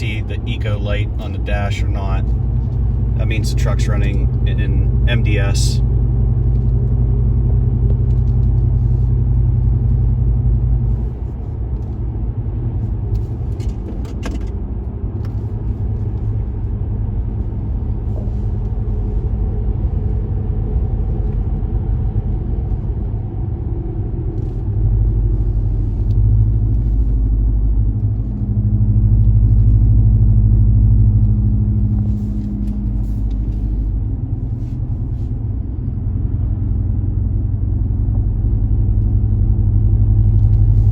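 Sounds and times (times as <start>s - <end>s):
truck exhaust drone: 0.0s - 40.9s.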